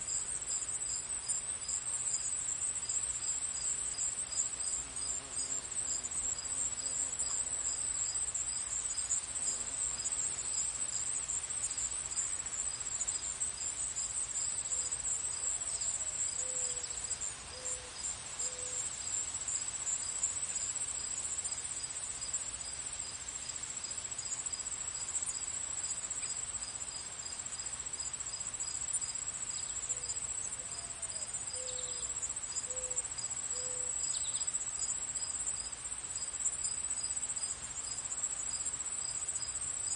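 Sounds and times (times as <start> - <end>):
crickets trilling: 0.0 - 39.9
insect chirping: 0.0 - 39.9.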